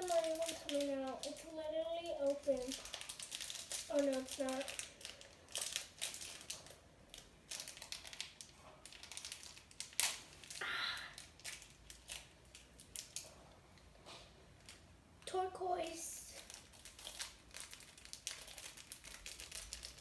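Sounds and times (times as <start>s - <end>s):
packet crinkling and rustling: 0.0s - 13.4s, 15.8s - 20.0s.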